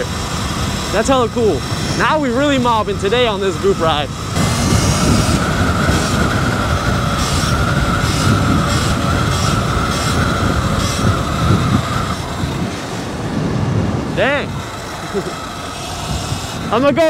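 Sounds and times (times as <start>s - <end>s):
electric motor whine: 0.0s - 17.0s
wind rumble on microphone: 0.0s - 17.0s.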